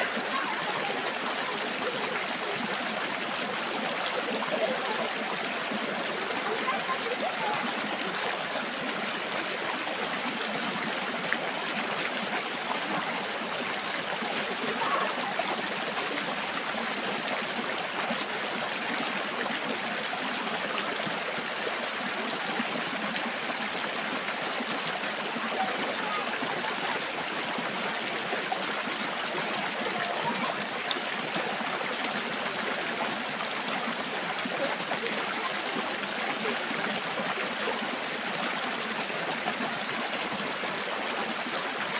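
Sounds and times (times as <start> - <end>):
river rushing over stones: 0.0 - 41.9.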